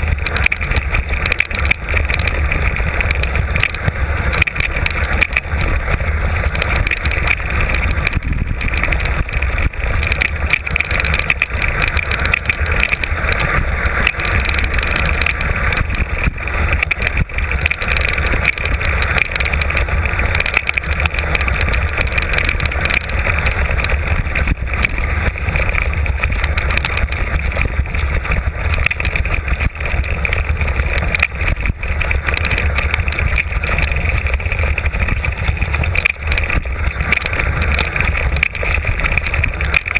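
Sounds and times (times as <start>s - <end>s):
bike rattling over rocks: 0.0s - 39.9s
wind rush on microphone: 0.0s - 39.9s.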